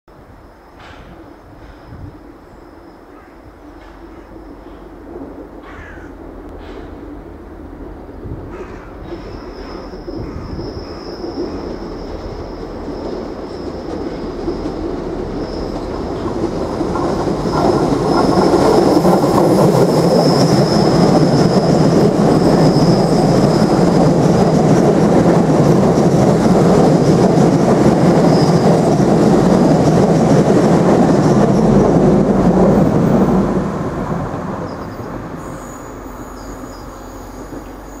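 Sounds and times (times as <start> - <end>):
train engines and wheels on rails: 0.1 - 38.0.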